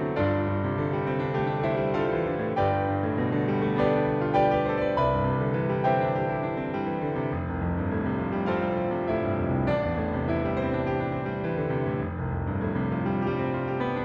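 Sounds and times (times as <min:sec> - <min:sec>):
piano playing slow chords: 0:00.0 - 0:14.0.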